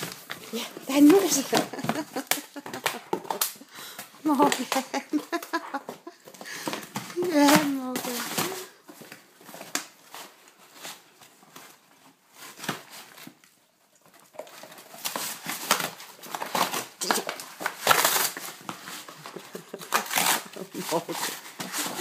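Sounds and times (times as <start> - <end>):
dog ripping cardboard: 0.0 - 3.6, 6.8 - 13.4, 14.1 - 22.0.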